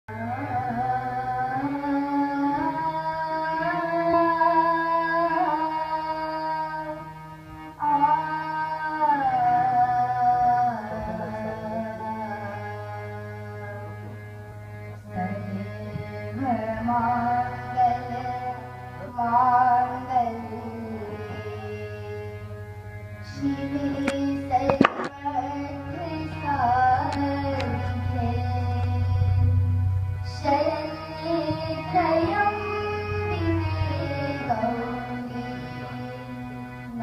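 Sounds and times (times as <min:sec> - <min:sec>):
harmonium melody over drone: 0:00.1 - 0:37.0
person singing wordless notes: 0:00.1 - 0:37.0.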